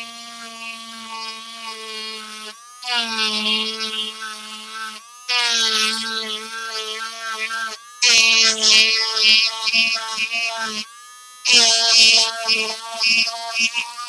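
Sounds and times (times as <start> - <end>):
rotary tool motor whine: 0.0 - 14.0.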